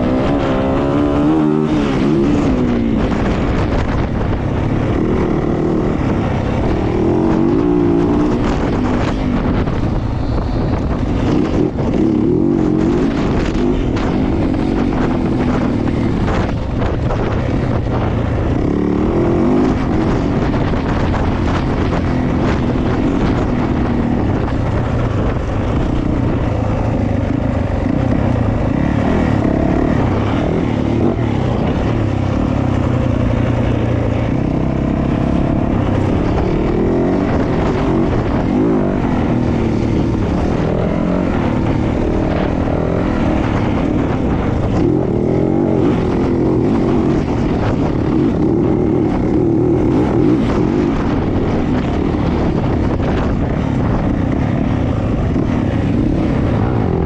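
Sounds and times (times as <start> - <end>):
dirt bike engine revving: 0.0 - 9.8, 11.0 - 57.0.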